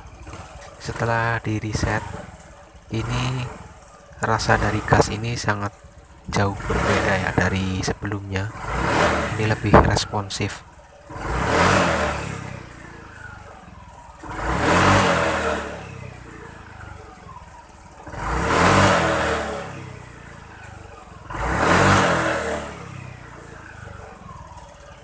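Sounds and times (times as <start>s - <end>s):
scooter engine idling and revving: 0.0s - 25.0s.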